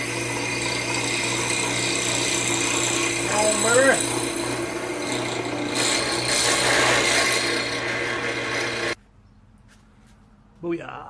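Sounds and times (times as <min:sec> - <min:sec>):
power tool cutting steel: 0:00.0 - 0:09.0.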